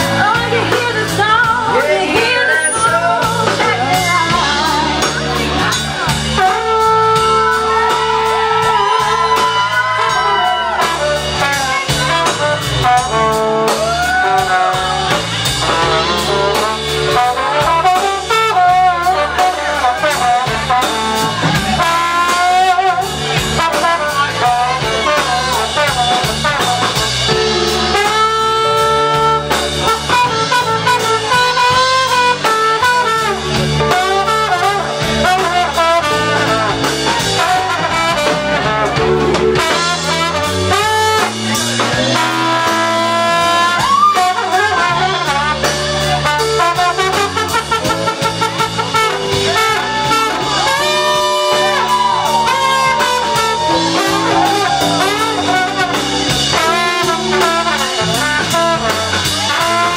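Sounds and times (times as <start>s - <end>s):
brass melody: 0.0s - 59.9s
live band instrumental music: 0.0s - 59.9s.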